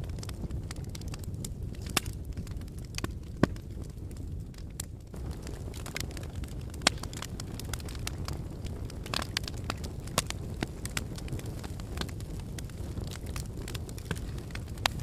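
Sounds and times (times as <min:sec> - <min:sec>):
loud fire pops: 0:00.0 - 0:15.0
low rumble of flames: 0:00.0 - 0:15.0
wood fire crackling: 0:00.0 - 0:15.0.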